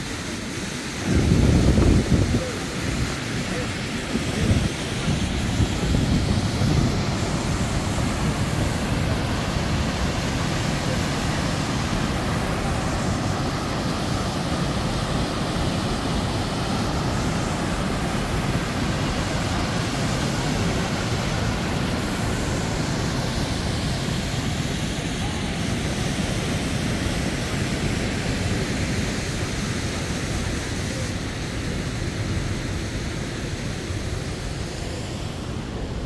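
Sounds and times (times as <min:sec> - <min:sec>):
river rapids rushing: 0:00.2 - 0:30.4.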